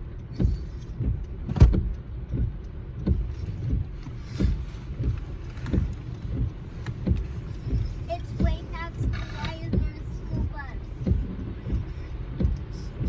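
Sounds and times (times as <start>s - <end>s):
car cabin low rumble: 0.0s - 13.0s
soft low thumps: 0.0s - 13.0s.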